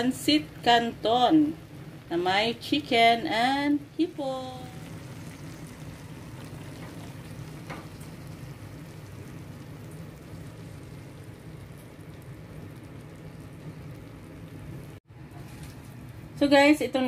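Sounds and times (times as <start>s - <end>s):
low hum: 0.0s - 16.6s
food sizzling in a frying pan: 0.0s - 17.0s.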